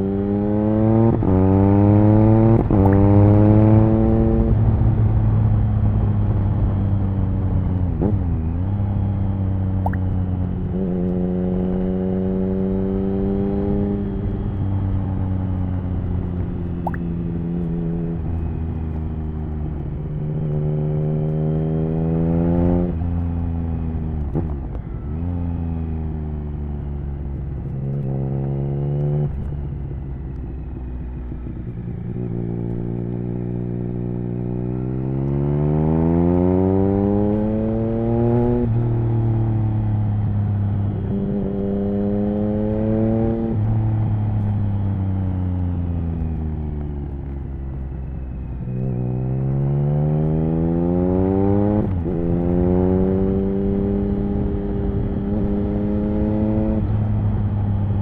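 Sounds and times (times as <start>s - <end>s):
motorcycle engine accelerating through gears: 0.0s - 58.0s.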